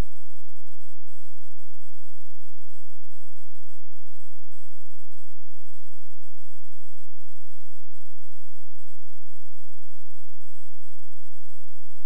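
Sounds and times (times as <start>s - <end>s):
film noise hiss and crackle: 0.0s - 12.0s.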